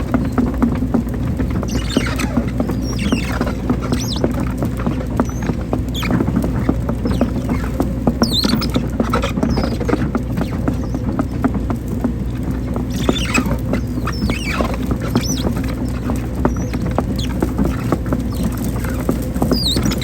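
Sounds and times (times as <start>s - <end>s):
excavator engine running: 0.0s - 20.0s
brief high squeaks: 1.5s - 11.0s, 12.9s - 20.0s.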